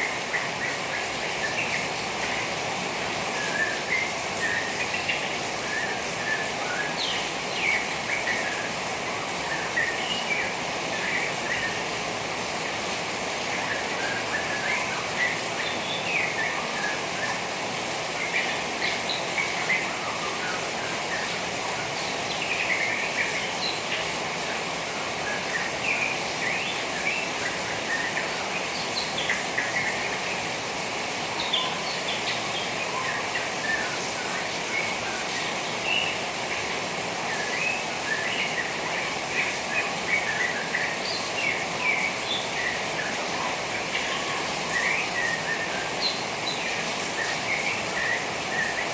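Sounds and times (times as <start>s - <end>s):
trickling rainwater hiss: 0.0s - 48.9s.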